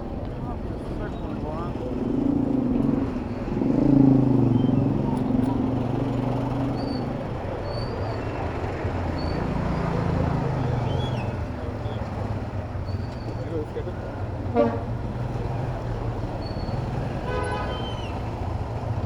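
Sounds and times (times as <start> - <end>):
road noise: 0.0 - 19.0
vehicle engines humming: 0.0 - 19.0.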